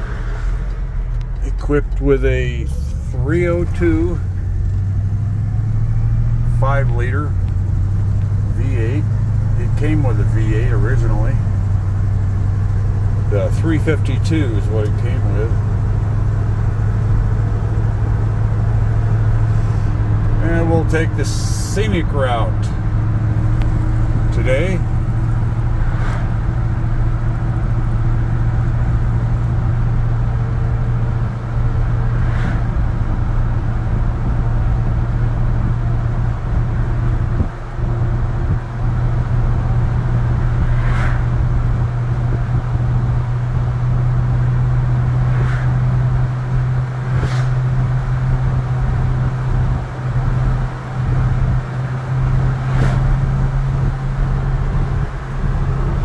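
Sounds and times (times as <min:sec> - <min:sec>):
engine running at cruising speed: 0:00.0 - 0:56.0
road rumble: 0:00.0 - 0:56.0.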